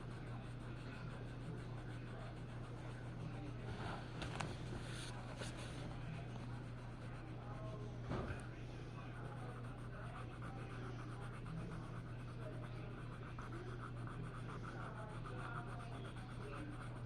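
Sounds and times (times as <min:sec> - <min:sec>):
drawing tool scratching paper: 0:00.0 - 0:17.0
steady low hum: 0:00.0 - 0:17.0.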